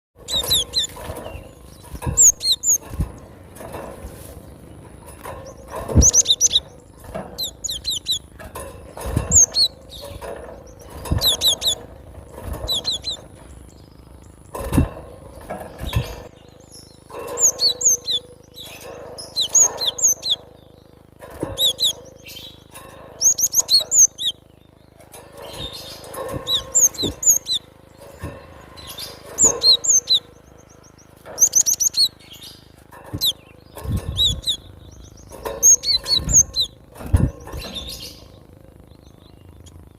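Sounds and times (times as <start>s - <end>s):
bird chirping: 0.2s - 39.9s.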